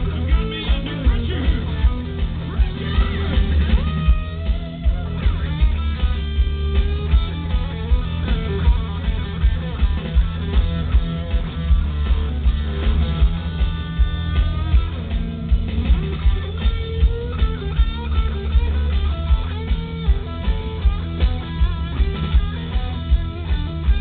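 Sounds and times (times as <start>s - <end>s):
bass guitar: 0.0s - 24.0s
electric guitars: 0.0s - 24.0s
steady drum beat: 0.0s - 24.0s.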